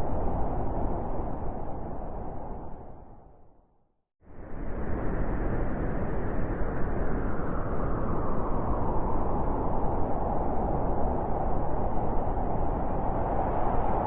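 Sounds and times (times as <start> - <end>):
blizzard wind howling: 0.0 - 3.6, 4.2 - 14.0.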